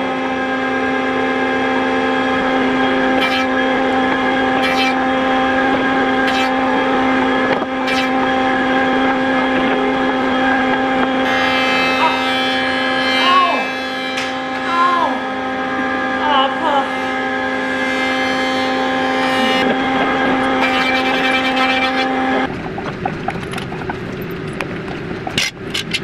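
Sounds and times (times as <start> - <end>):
woodworking machine motor running: 0.0 - 26.0.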